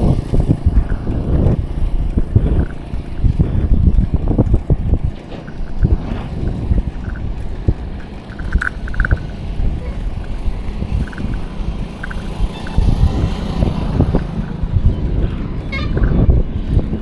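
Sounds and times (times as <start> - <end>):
road and vehicle rumble: 0.0 - 17.0
wind buffeting microphone: 0.0 - 17.0.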